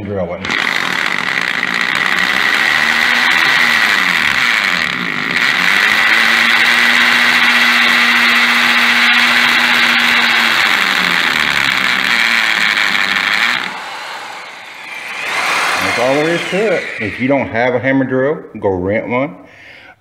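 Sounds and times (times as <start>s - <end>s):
hammer drill drilling into concrete: 0.4s - 17.7s.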